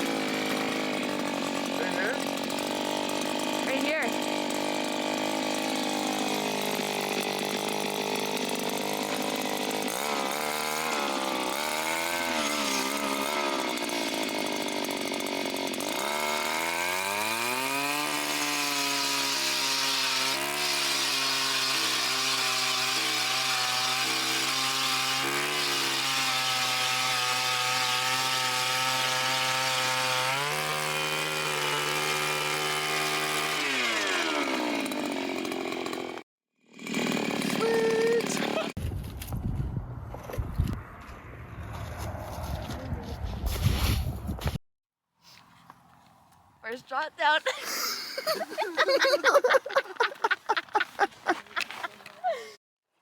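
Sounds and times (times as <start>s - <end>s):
ice auger engine drilling: 0.0s - 38.8s, 46.9s - 52.6s.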